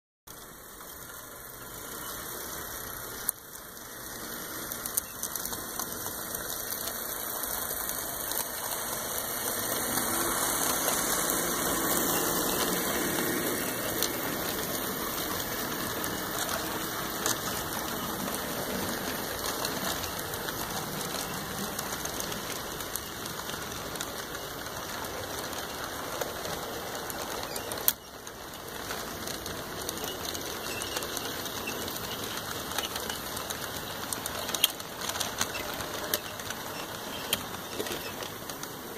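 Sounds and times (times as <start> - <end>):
model train wheels clattering on rails: 0.3 - 38.9.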